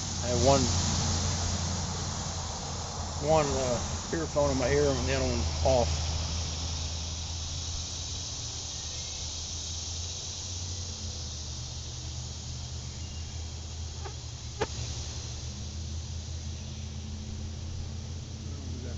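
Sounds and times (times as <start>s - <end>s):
insects hissing: 0.0s - 18.9s
low steady hum: 0.0s - 18.9s.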